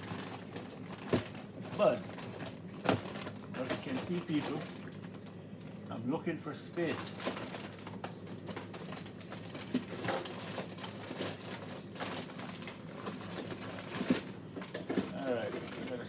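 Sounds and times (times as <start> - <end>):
food packages shifted in fridge: 0.0 - 5.5, 6.6 - 16.0.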